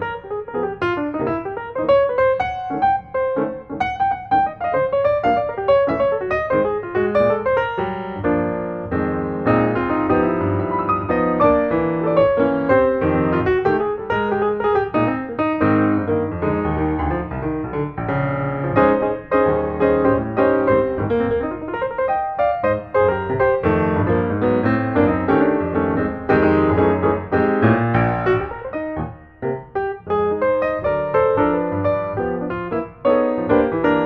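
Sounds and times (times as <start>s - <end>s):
piano music with quick notes: 0.0s - 34.0s.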